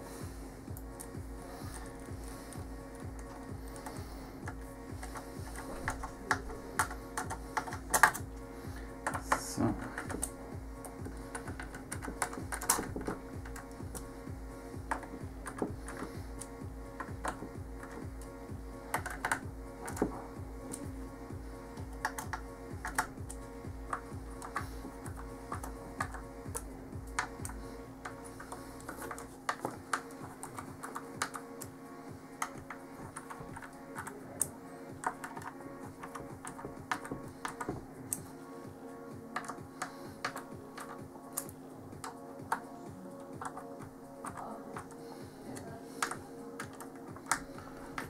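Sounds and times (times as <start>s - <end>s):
background music: 0.0s - 48.0s.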